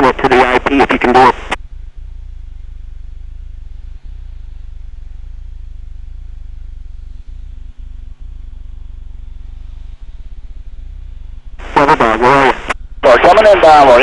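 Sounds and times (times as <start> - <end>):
airplane engine drone in cockpit: 0.0 - 14.0.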